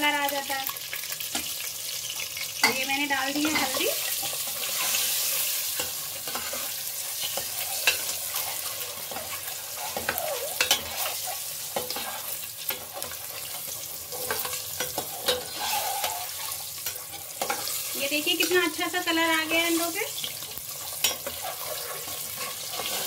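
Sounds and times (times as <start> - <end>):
eggs sizzling in hot oil: 0.0 - 23.0.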